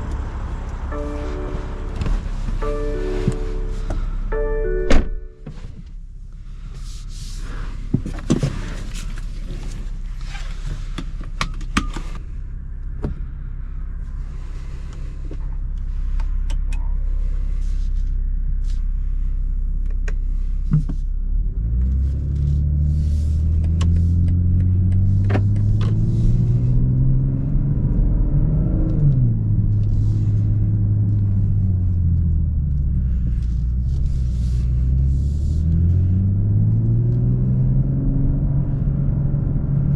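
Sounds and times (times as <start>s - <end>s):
car engine accelerating: 0.0s - 6.7s, 7.4s - 39.9s.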